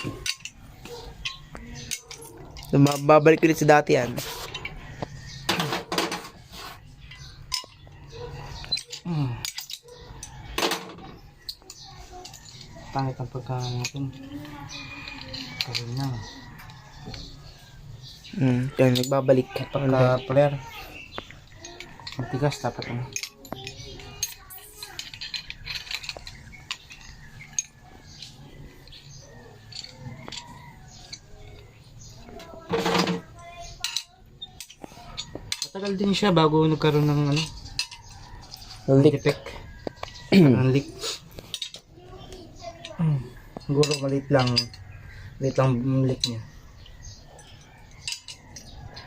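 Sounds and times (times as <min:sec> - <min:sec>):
metal tools clinking on copper tubing: 0:00.0 - 0:49.0.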